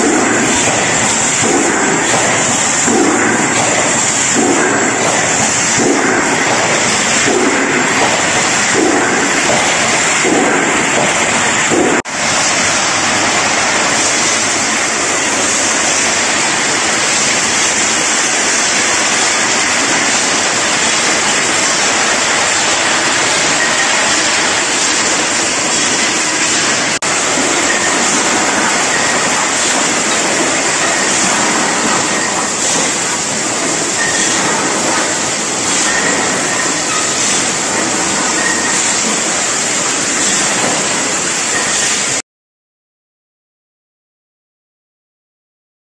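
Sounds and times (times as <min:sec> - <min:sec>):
filling machinery hissing: 0:00.0 - 0:42.2.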